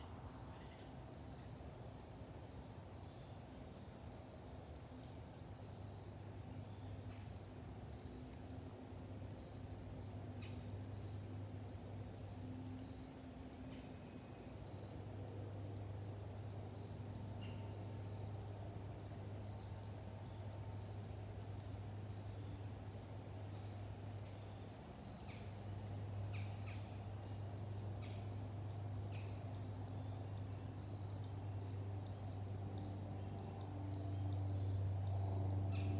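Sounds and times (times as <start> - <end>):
crickets trilling: 0.0 - 35.9.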